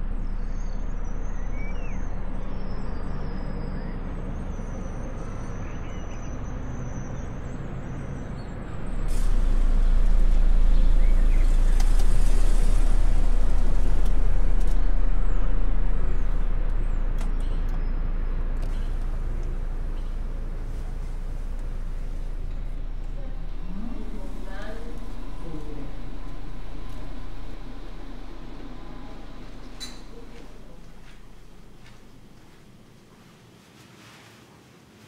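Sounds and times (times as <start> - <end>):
car engine rumble: 0.0 - 33.3
street hum: 0.0 - 33.6.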